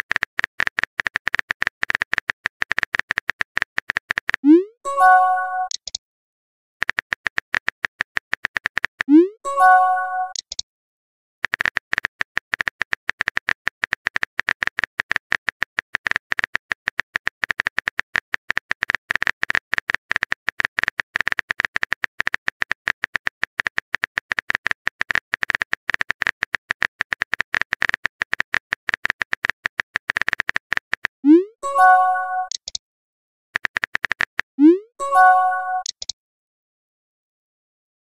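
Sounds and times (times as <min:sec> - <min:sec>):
phone keyboard typing clicks: 0:00.0 - 0:04.5, 0:05.1 - 0:06.0, 0:06.8 - 0:10.6, 0:11.4 - 0:31.2, 0:31.8 - 0:32.8, 0:33.6 - 0:36.2.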